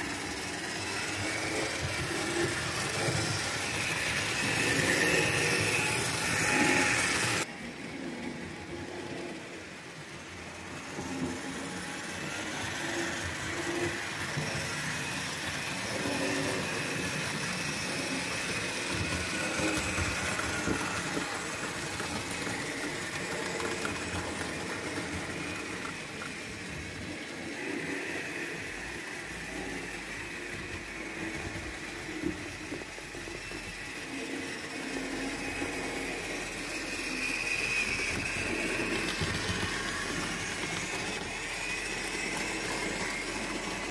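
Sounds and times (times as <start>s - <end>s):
small electric motors whirring: 0.0s - 43.9s.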